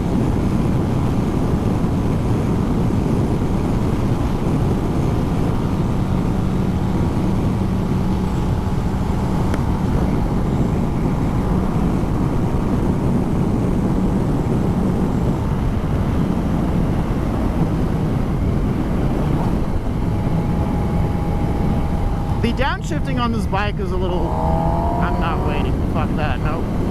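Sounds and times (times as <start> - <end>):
motorcycle engine cruising: 0.0 - 26.9
road and wind noise: 0.0 - 26.9.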